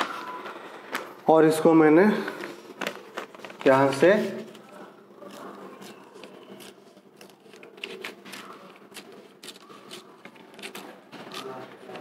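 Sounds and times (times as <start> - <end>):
paper rustling and crinkling: 2.2 - 12.0.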